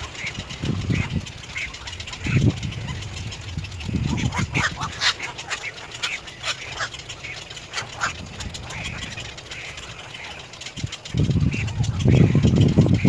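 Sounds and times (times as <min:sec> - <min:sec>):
heron croaks: 0:00.0 - 0:13.0.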